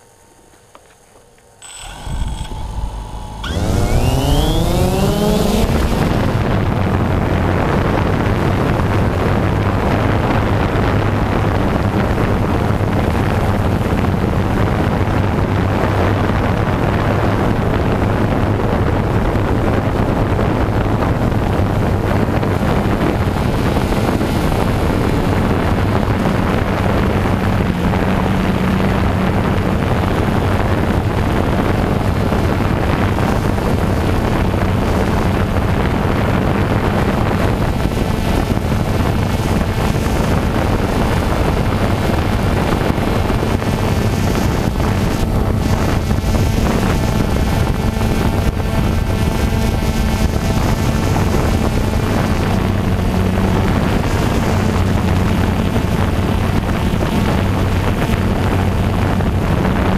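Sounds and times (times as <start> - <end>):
vehicle engine running: 1.6 - 59.9
wind on microphone: 1.6 - 59.9.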